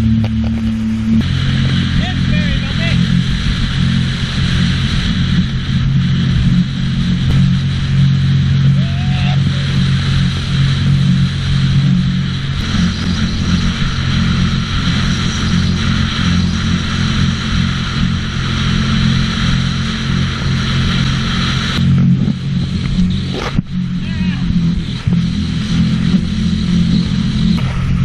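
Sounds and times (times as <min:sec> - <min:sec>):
watercraft engine running: 0:00.0 - 0:28.0.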